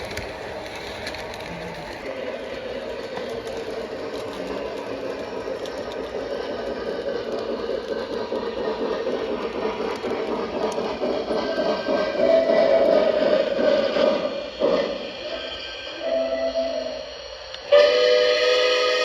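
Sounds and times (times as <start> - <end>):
wheels rolling on rails: 0.0 - 17.7
model train motor whir: 0.0 - 19.0.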